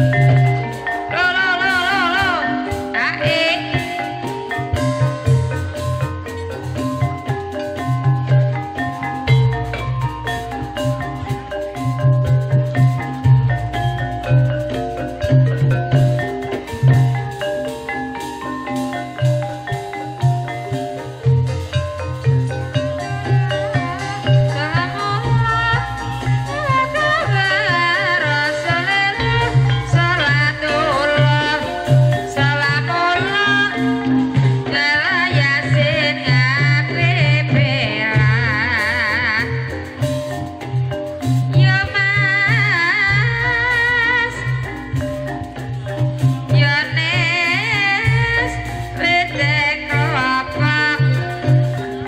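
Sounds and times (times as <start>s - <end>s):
gong and metallophone notes: 0.0s - 52.0s
held gamelan tones: 0.0s - 52.0s
low drum beat: 1.9s - 34.6s, 35.4s - 52.0s.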